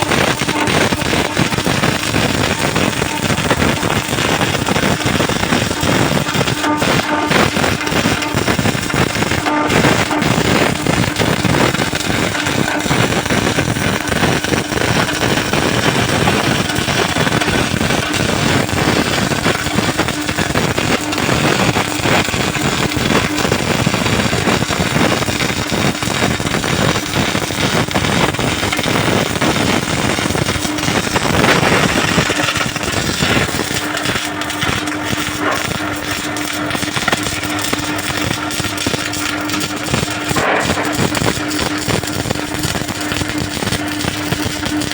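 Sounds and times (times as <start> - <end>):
steady hum: 0.0 - 44.9
welding arc crackling and buzzing: 0.0 - 44.9.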